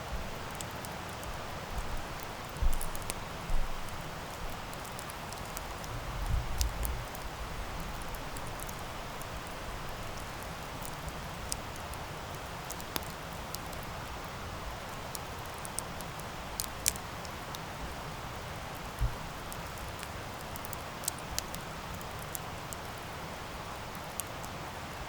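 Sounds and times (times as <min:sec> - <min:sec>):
campfire burning: 0:00.0 - 0:25.0
fire crackles and pops: 0:00.1 - 0:25.0.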